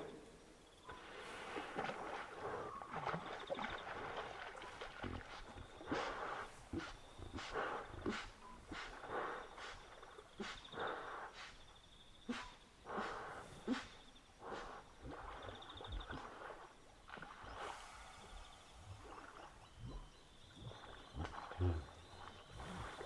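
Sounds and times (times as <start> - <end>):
hippopotamus grunts and snorts: 0.9 - 16.7, 17.3 - 23.0.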